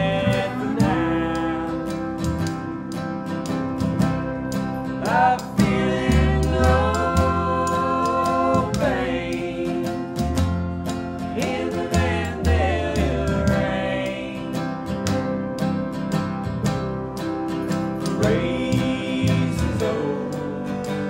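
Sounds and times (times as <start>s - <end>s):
sliding lap steel guitar: 0.0s - 21.0s
strummed acoustic guitar: 0.0s - 21.0s
upright bass: 0.0s - 21.0s.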